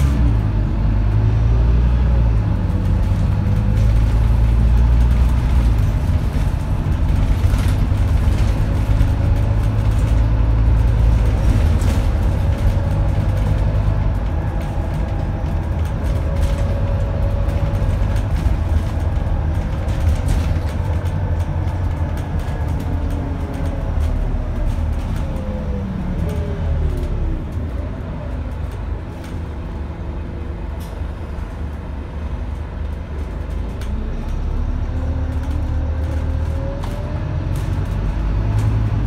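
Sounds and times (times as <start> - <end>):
bus diesel engine rumble: 0.0 - 39.0
road noise: 0.0 - 39.0.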